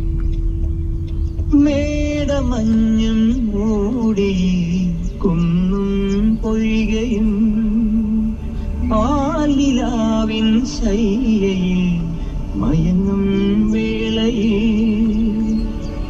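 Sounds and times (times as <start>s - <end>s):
low hum: 0.0s - 16.0s
singer holding wavering notes: 0.0s - 16.0s
song on car audio: 0.0s - 16.0s.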